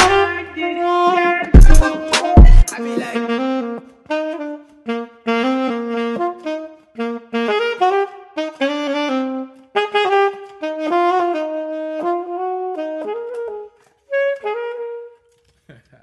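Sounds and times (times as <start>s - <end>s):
jazz saxophone solo: 0.0s - 15.4s.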